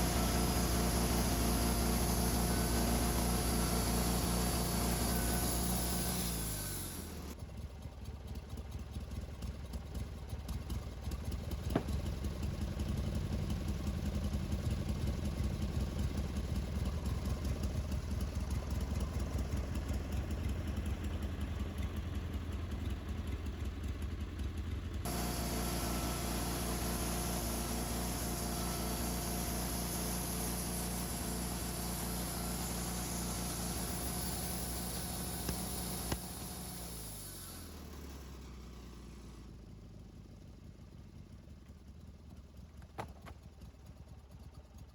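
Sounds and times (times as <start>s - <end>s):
engine idling: 0.0s - 44.9s
steady engine hum: 0.0s - 44.9s.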